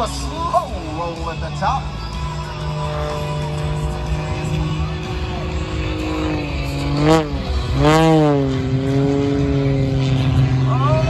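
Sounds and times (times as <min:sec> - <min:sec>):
plane engine and propeller droning: 0:00.0 - 0:11.0.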